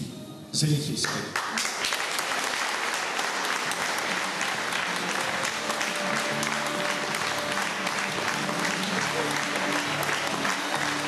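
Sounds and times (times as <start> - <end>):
background music: 0.0 - 1.8, 2.4 - 11.0
audience applauding: 1.3 - 11.0.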